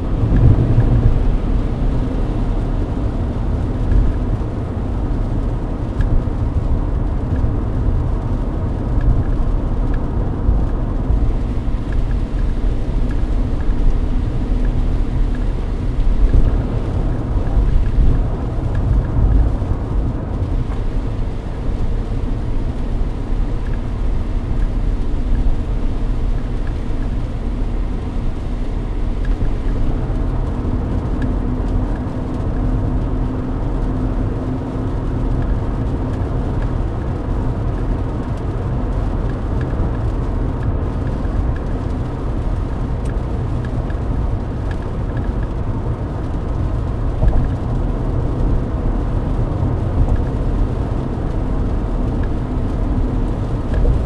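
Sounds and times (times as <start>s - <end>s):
car engine drone: 0.0s - 54.0s
tyre rumble on wet road: 0.0s - 54.0s.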